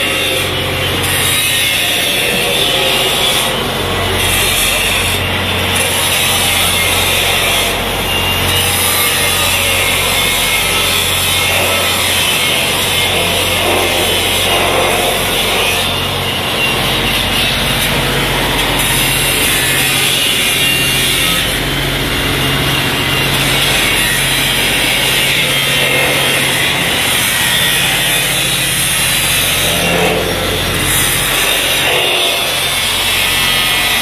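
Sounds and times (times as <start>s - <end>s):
rough machinery noise: 0.0s - 34.0s.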